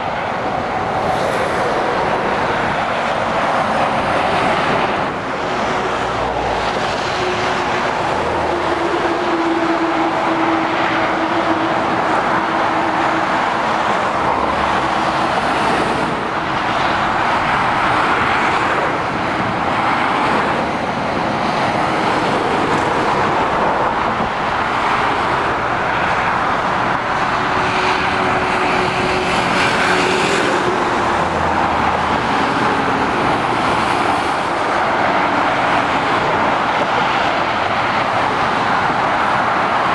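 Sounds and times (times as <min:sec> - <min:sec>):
lorries droning past: 0:00.0 - 0:39.9
motorway traffic rushing: 0:00.0 - 0:39.9.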